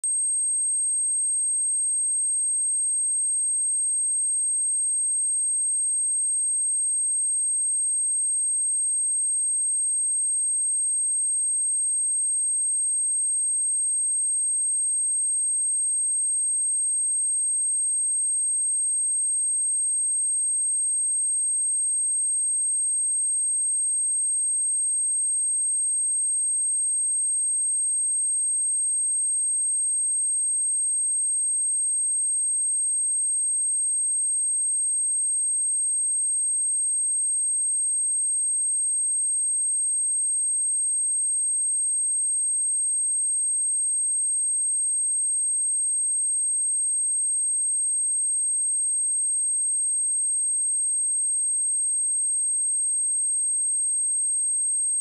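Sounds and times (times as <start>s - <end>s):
high-pitched sine-wave test tone: 0.0s - 55.0s.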